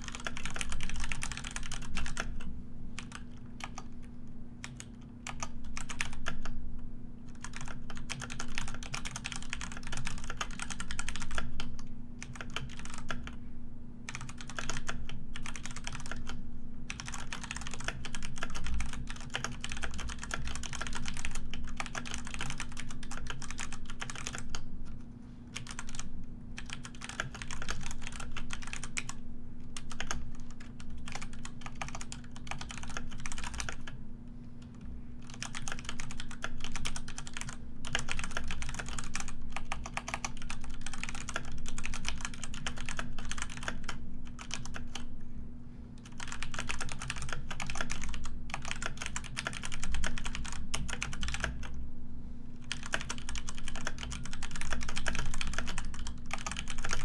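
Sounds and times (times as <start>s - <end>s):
keyboard typing: 0.0s - 3.9s, 4.6s - 6.5s, 7.3s - 13.4s, 14.1s - 29.2s, 29.8s - 34.0s, 34.6s - 45.1s, 46.0s - 51.8s, 52.6s - 57.0s.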